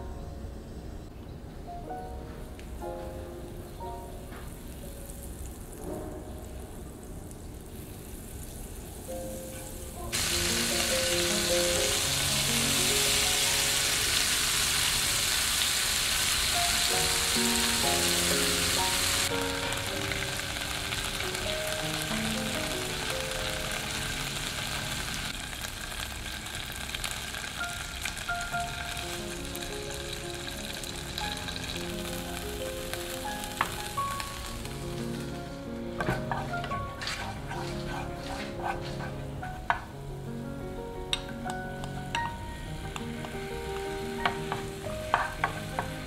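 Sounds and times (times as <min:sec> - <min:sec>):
soft background music: 0:00.0 - 0:25.5, 0:26.2 - 0:46.0
prawns sizzling in hot oil: 0:04.5 - 0:39.4, 0:41.6 - 0:46.0.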